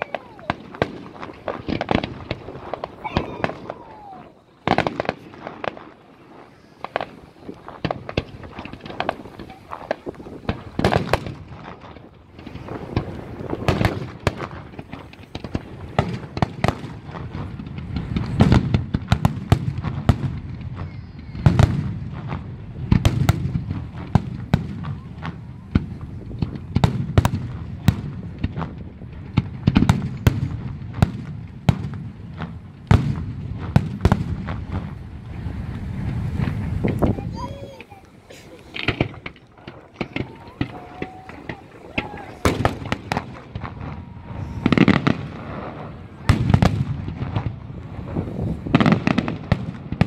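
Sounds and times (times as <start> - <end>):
fireworks bursting with sharp bangs: 0.0 - 50.0.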